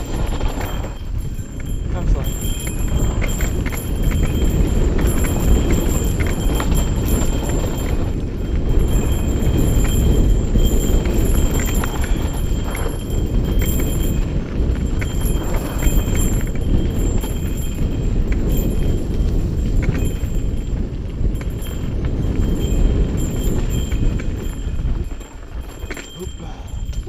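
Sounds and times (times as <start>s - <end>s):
tyres rolling over dirt and rocks: 0.0s - 26.8s
bike rattling clicks and knocks: 0.0s - 27.0s
wind rushing on microphone: 0.0s - 27.0s.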